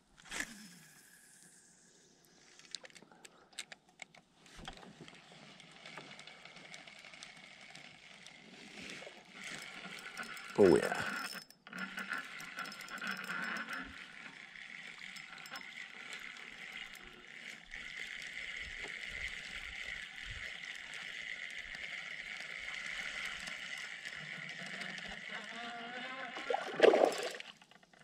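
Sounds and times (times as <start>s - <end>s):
fishing reel cranking: 0.2s - 3.0s, 5.2s - 28.0s.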